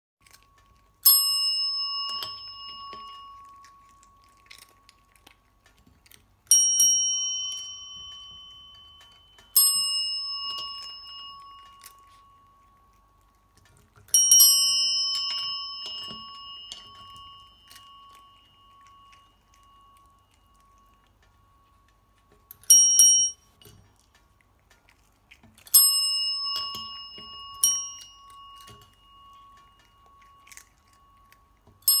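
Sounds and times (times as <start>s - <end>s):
desk bell ringing: 1.0s - 4.4s, 6.5s - 13.2s, 14.1s - 23.6s, 25.7s - 32.0s.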